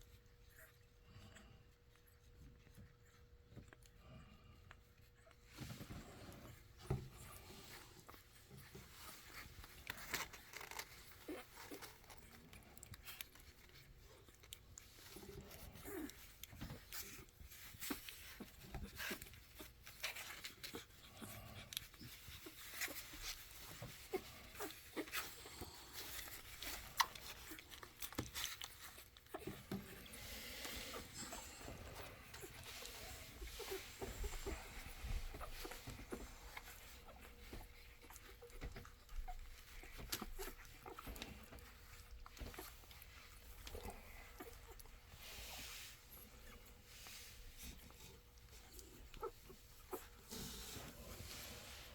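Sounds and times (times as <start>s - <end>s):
puppies suckling: 0.0s - 51.9s.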